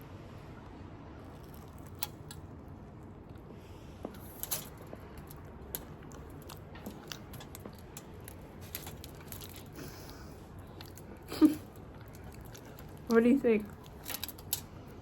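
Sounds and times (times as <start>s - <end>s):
low room hum: 0.0s - 15.0s
chewing crisp pastry: 0.6s - 15.0s.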